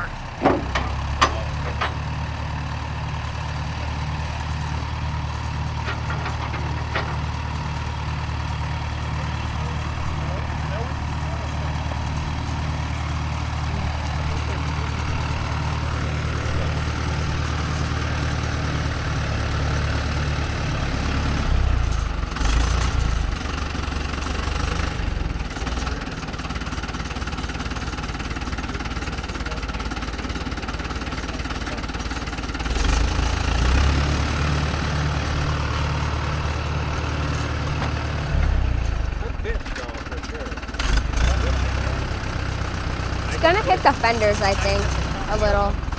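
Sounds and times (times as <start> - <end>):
tractor engine revving: 0.0 - 45.9.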